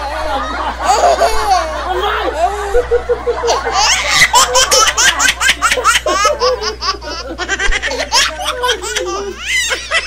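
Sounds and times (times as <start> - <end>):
high-pitched laughter: 0.0 - 10.0.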